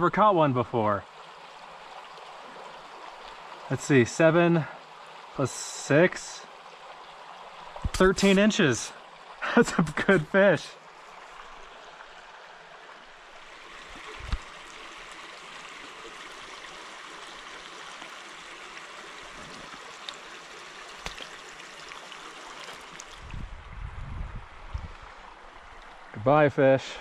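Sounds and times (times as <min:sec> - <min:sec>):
creek babbling over rocks: 0:00.0 - 0:23.4, 0:24.5 - 0:27.0.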